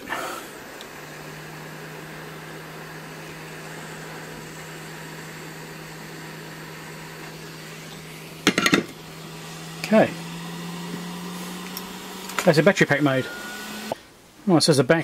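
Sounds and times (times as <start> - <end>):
hot air blower hissing: 0.0 - 14.9.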